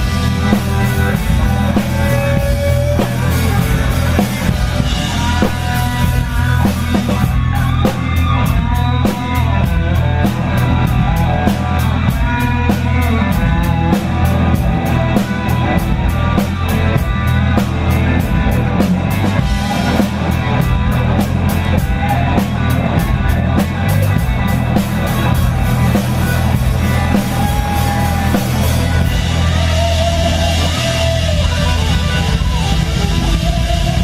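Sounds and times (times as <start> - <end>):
blues rock band playing: 0.0 - 34.0
electric guitar lead lines: 0.0 - 34.0.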